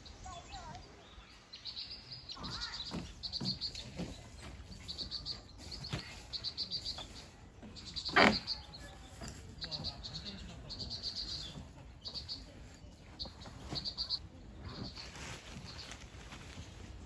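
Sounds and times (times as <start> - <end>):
small birds trilling: 0.0 - 17.0.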